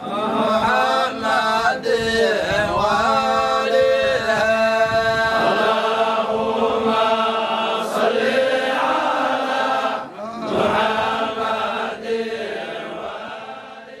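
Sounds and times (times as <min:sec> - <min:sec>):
men chanting devotional song: 0:00.0 - 0:14.0.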